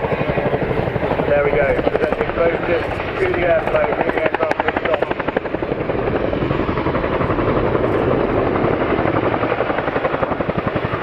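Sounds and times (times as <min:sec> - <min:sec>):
helicopter rotors beating: 0:00.0 - 0:11.0.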